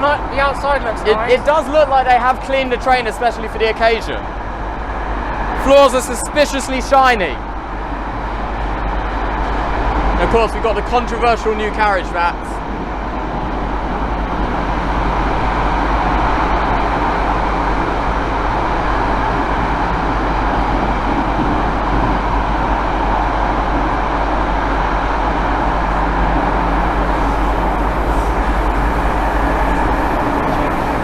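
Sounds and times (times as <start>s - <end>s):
train wheels on rail: 1.5s - 31.0s.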